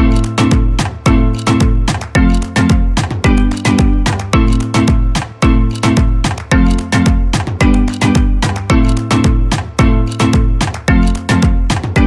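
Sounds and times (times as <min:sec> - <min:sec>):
upbeat music with deep bass: 0:00.0 - 0:12.0.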